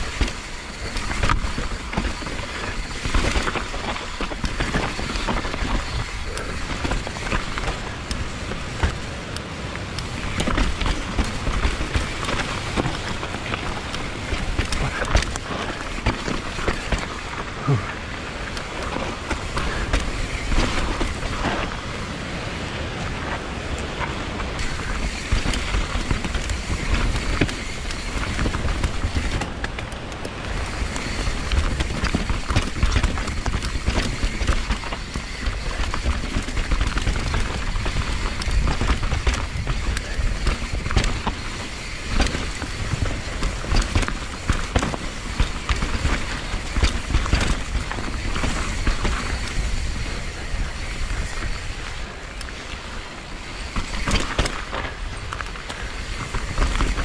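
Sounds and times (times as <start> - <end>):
bike rattles and knocks: 0.0 - 57.0
tyre noise on dirt and rock: 0.0 - 57.0
wind rumble on microphone: 0.0 - 57.0.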